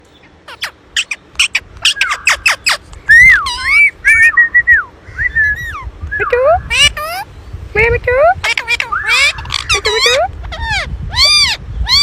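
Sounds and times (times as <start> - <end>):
parakeets squawking and whistling: 0.4 - 7.3, 8.3 - 12.0.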